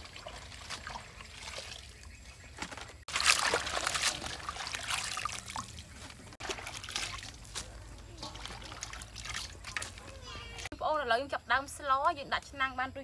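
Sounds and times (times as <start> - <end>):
water splashing in basin: 0.0 - 10.7.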